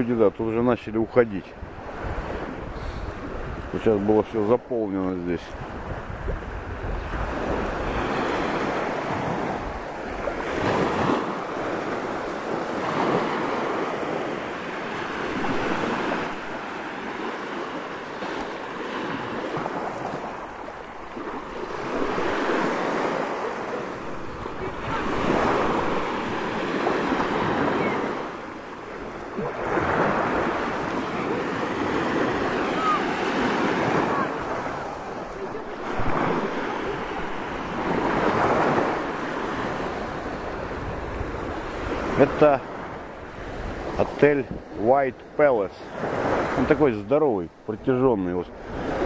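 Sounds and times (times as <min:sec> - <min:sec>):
small waves breaking on beach: 0:00.0 - 0:49.0.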